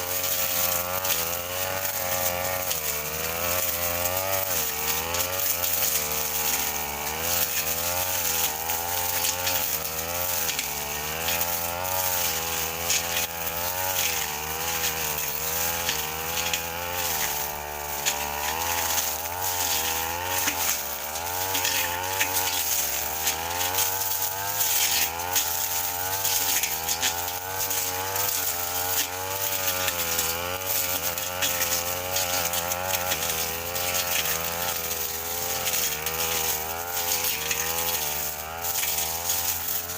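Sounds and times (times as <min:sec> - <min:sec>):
blade slashing grass: 0:00.0 - 0:39.9
brush cutter engine at high revs: 0:00.0 - 0:39.9.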